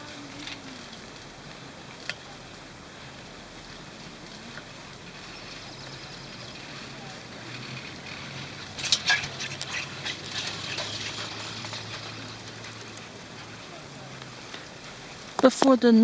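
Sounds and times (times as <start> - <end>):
chairlift open-air hiss: 0.0 - 16.0.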